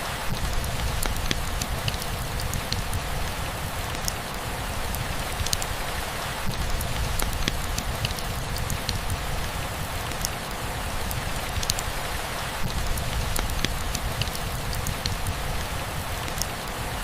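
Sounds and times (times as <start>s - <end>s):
rain falling: 0.0s - 17.0s
raindrops pattering: 0.0s - 17.0s.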